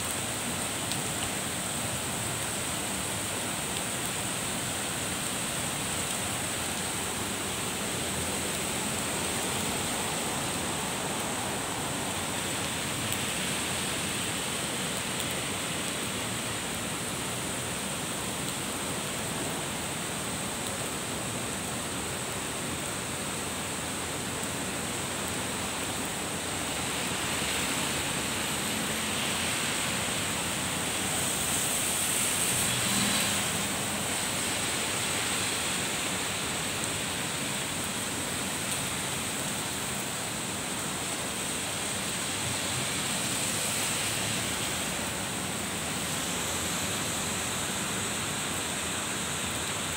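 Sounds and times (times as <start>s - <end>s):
heavy rain falling: 0.0s - 49.9s
truck tyres on wet road: 0.0s - 49.9s.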